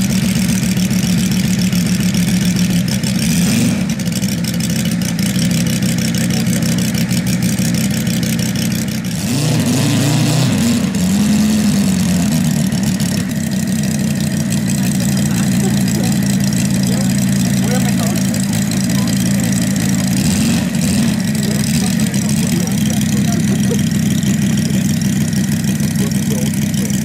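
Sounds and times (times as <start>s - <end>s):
radial engine idling and revving: 0.0s - 27.0s.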